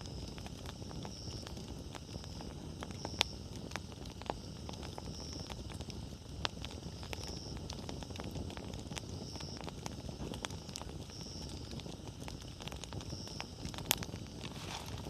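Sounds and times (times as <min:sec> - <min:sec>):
low rumble of burning wood: 0:00.0 - 0:15.0
wood fire crackling: 0:00.0 - 0:15.0.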